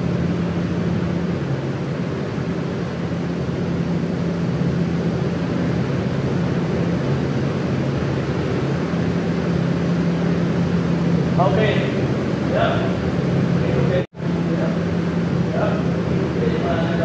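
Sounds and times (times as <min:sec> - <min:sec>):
fan air whoosh: 0:00.0 - 0:17.0
low motor hum: 0:00.0 - 0:17.0.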